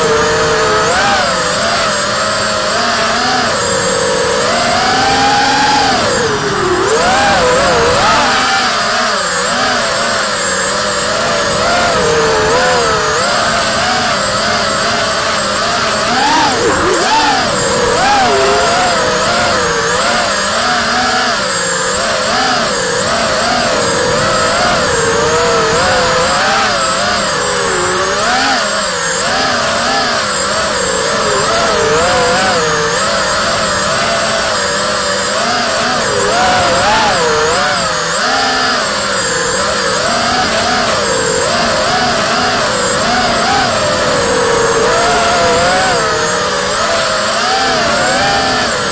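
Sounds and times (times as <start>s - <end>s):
quadcopter motors buzzing whine: 0.0s - 48.9s.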